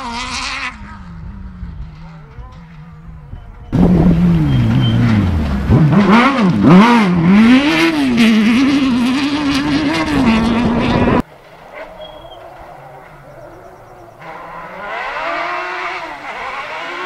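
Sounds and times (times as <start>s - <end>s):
buggy engine revving: 0.0s - 17.0s.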